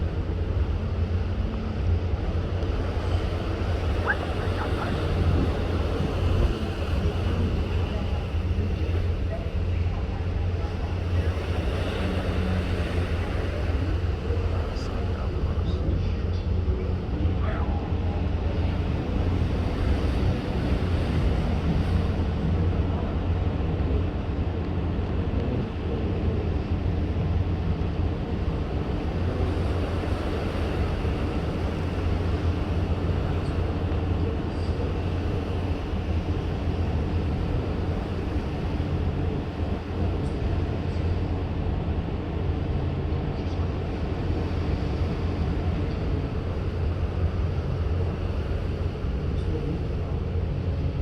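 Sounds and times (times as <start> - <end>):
ship engines rumbling: 0.0 - 51.0
water noise: 0.0 - 51.0
wind: 0.0 - 51.0.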